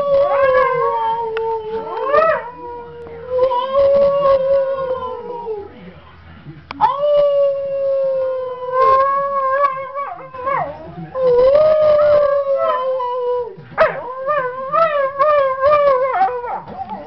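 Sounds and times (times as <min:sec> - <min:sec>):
dog howling: 0:00.0 - 0:05.7, 0:06.8 - 0:17.0.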